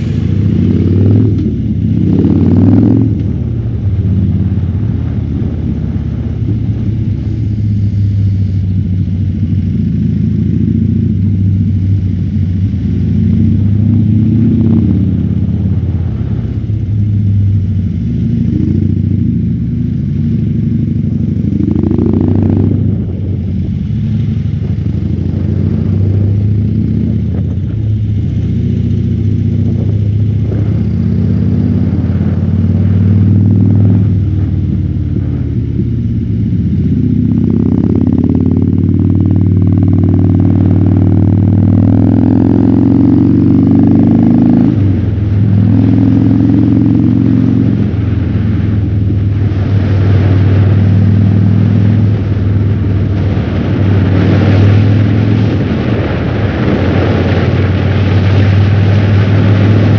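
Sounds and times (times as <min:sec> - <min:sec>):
motorcycle engine revving: 0:00.0 - 0:59.9
wind on microphone: 0:00.0 - 0:59.9.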